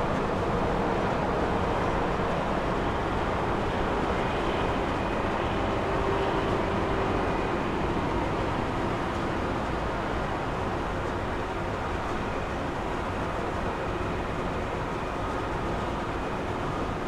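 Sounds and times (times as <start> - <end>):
jet engines rumbling and hissing: 0.0 - 17.0.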